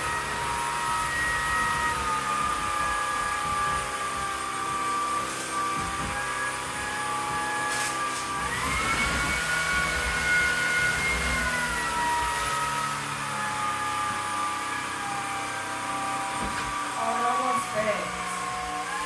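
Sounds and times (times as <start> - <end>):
stick vacuum running: 0.0 - 19.0.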